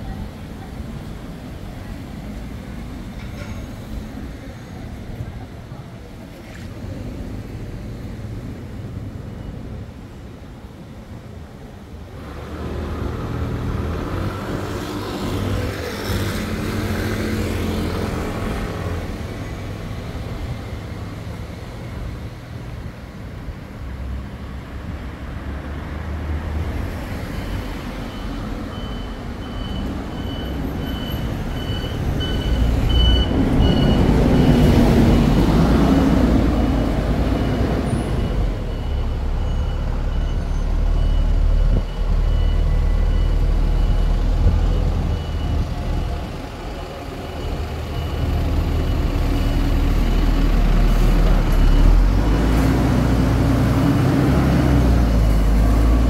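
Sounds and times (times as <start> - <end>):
heavy vehicle engine rumble: 0.0 - 56.0.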